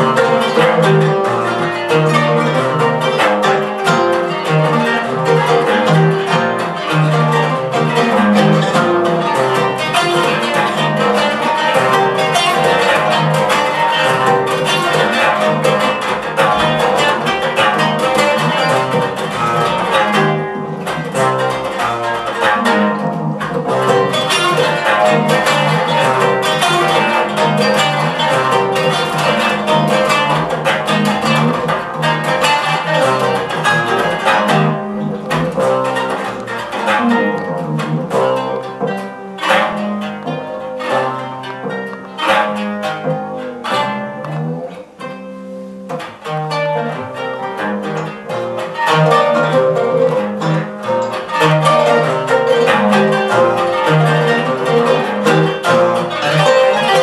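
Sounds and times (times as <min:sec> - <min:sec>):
plucked string band music: 0:00.0 - 0:57.0.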